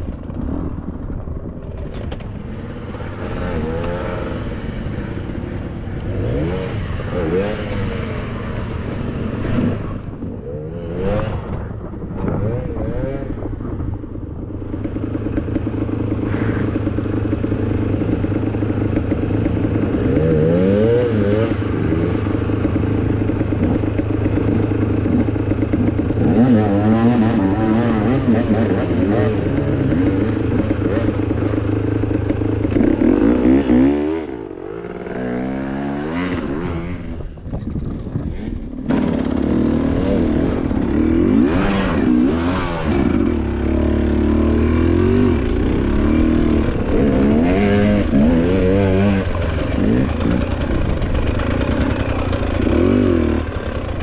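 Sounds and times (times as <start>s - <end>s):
dirt bike engine revving: 2.3s - 13.4s, 14.5s - 37.4s, 38.3s - 54.0s.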